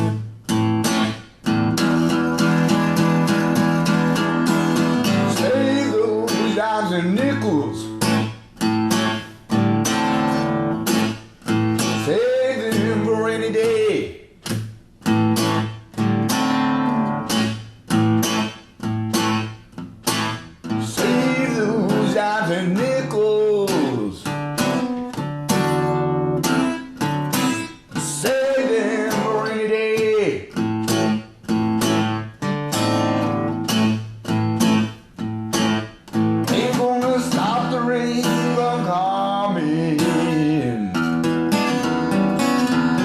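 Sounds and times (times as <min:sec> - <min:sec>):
blues guitar playing: 0:00.0 - 0:43.0.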